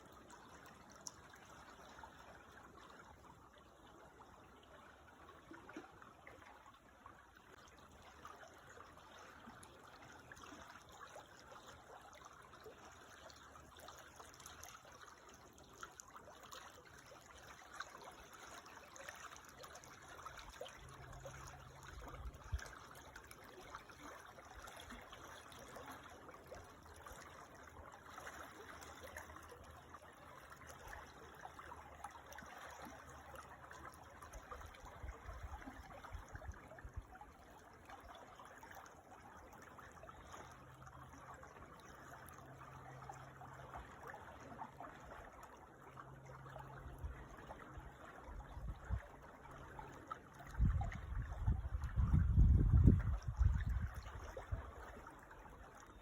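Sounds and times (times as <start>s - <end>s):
creek water trickling over stones: 0.0s - 56.0s.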